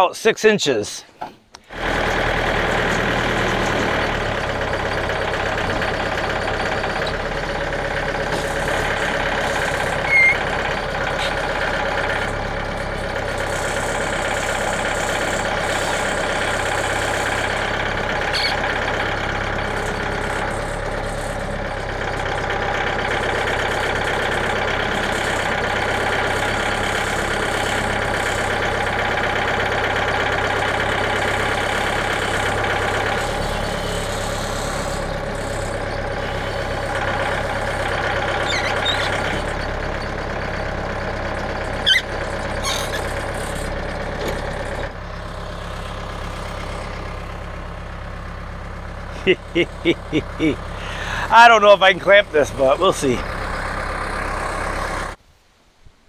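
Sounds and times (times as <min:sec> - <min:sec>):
tractor engine running: 0:00.0 - 0:55.2.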